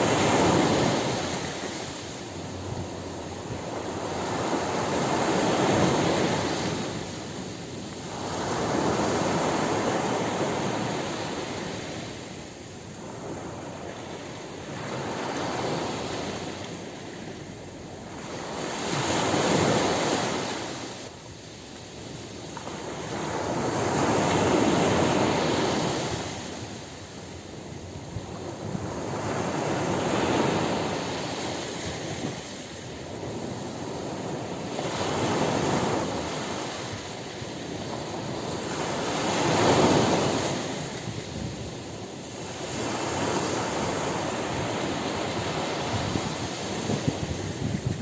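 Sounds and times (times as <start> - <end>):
ocean waves breaking on beach: 0.0 - 48.0.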